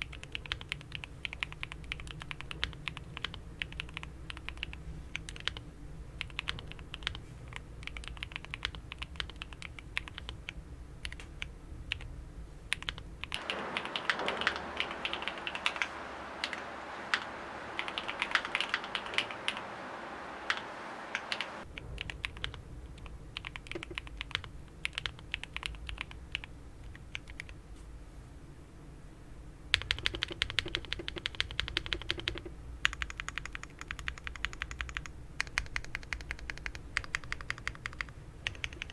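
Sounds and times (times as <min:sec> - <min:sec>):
typing on mechanical keyboard: 0:00.0 - 0:05.6, 0:06.2 - 0:11.3, 0:12.7 - 0:19.6, 0:21.2 - 0:27.5, 0:29.7 - 0:38.9.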